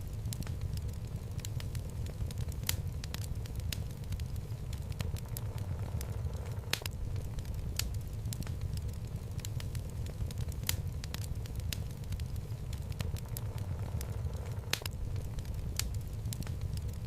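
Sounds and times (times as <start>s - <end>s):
logs burning with crackles: 0.0s - 17.0s.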